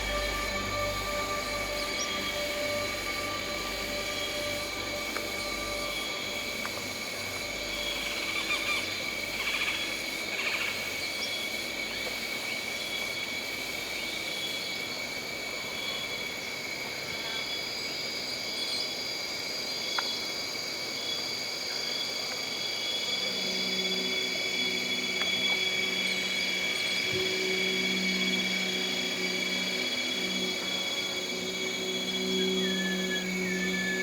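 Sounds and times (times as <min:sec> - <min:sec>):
insect chirping bursts: 0:00.0 - 0:16.3, 0:22.7 - 0:34.0
crickets trilling: 0:00.0 - 0:34.0.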